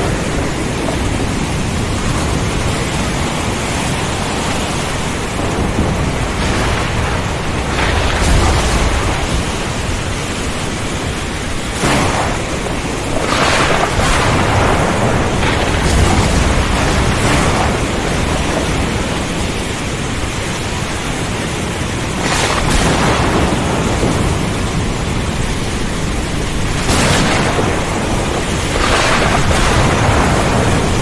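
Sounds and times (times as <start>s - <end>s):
heavy rain and wind: 0.0s - 31.0s
thunder: 0.0s - 31.0s.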